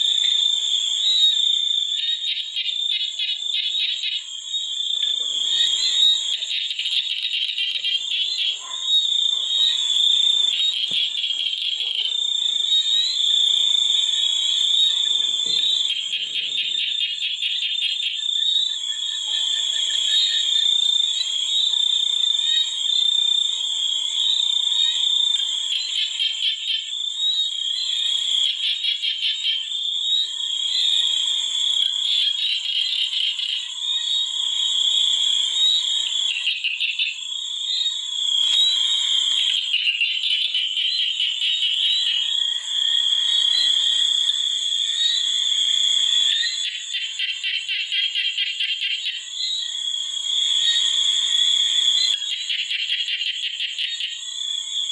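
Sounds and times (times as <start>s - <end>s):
chorus of frogs trilling: 0.0s - 54.9s.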